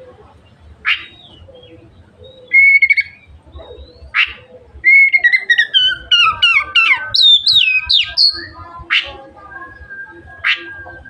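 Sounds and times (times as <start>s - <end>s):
bird whistling song: 0.8s - 11.0s.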